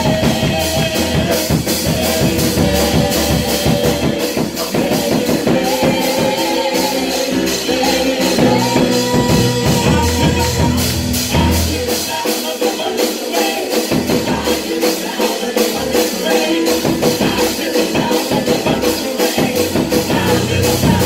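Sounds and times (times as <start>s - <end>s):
band playing praise music: 0.0s - 21.0s.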